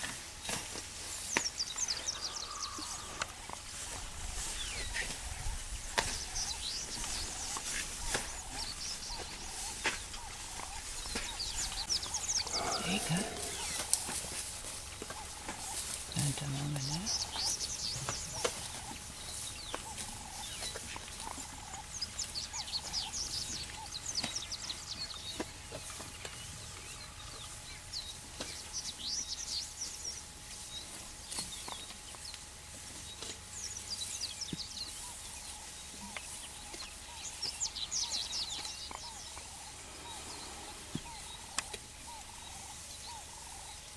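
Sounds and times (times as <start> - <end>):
birds chirping rapidly: 0.1 - 43.9.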